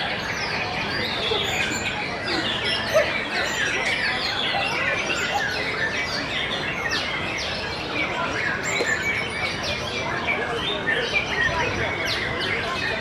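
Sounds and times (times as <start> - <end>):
background hubbub: 0.0 - 13.0
many birds singing: 0.0 - 13.0.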